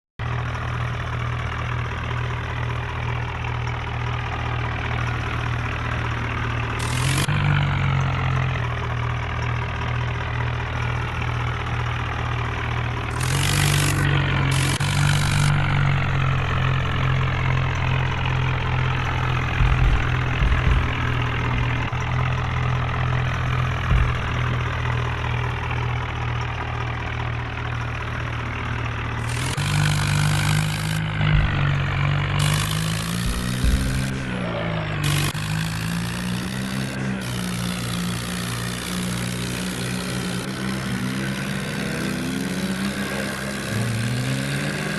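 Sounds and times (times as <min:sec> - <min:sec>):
tractor engine idling and revving: 0:00.2 - 0:44.9.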